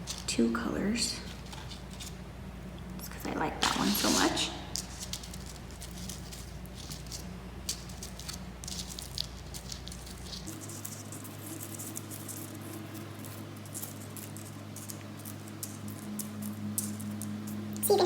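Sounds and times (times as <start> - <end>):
steady low hum: 0.0 - 18.0
brush tapping and rustling: 1.2 - 2.2, 3.6 - 18.0.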